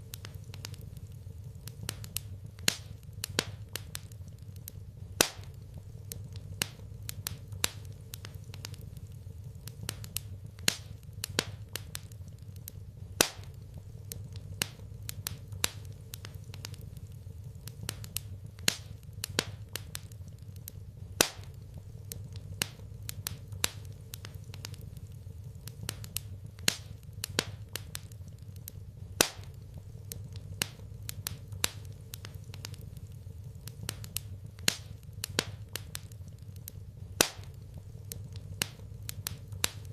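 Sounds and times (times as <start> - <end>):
fire crackling and popping: 0.0 - 39.9
steady low hum: 0.0 - 39.9.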